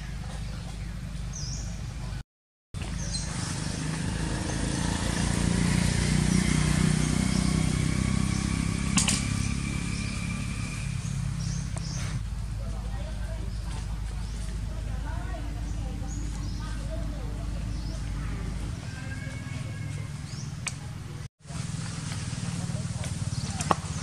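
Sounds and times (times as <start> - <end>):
motorbike passing: 2.8 - 24.0.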